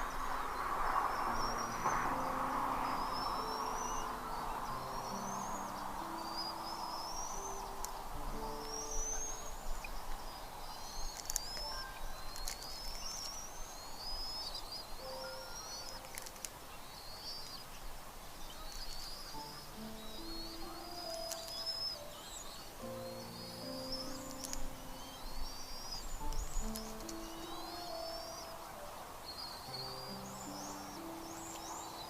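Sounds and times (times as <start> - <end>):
bird chirping: 0.0 - 32.0
soft background music: 0.0 - 32.0
steady hiss: 0.0 - 32.0.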